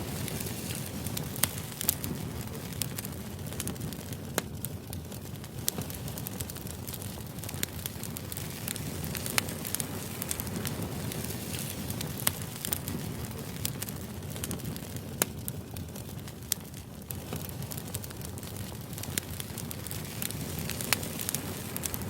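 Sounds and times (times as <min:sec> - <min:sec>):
fire low rumble: 0:00.0 - 0:22.0
fire popping and snapping: 0:00.0 - 0:22.0.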